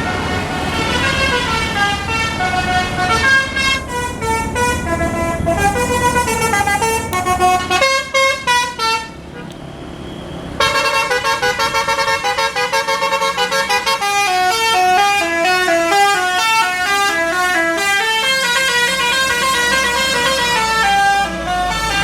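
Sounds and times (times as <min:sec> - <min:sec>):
bus horn playing melody: 0:00.0 - 0:09.6, 0:10.6 - 0:22.0.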